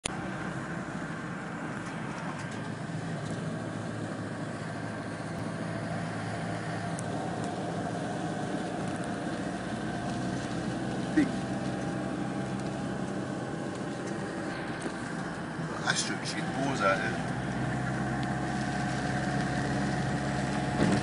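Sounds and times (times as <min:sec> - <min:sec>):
tyre and road noise: 0:00.0 - 0:21.0
van engine drone: 0:00.0 - 0:21.0.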